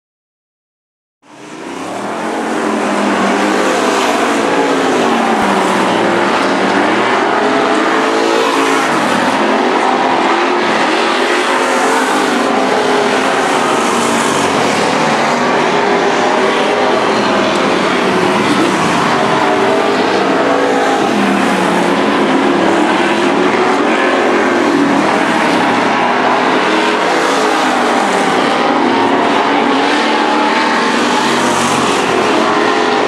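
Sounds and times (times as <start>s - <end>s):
race car engines droning: 1.2s - 33.0s.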